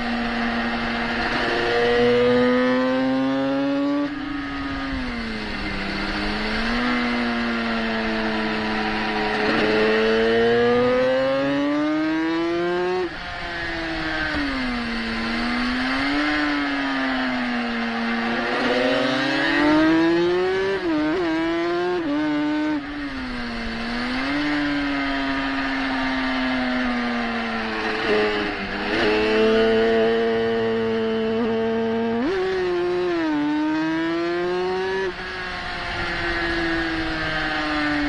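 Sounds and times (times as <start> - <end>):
racing motorcycle engine revving: 0.0 - 38.0.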